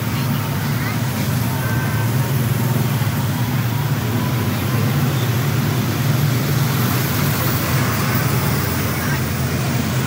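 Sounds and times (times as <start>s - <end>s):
road noise: 0.0s - 10.0s
truck driving past: 0.0s - 10.0s.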